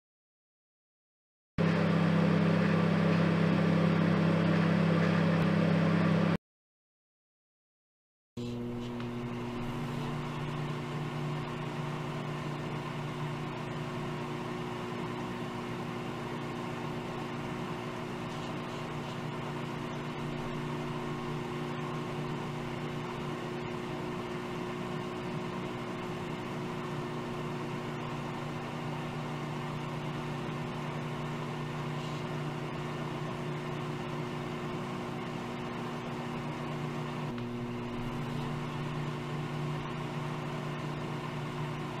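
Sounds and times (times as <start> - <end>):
microwave oven humming: 1.6 - 6.4, 8.4 - 42.0.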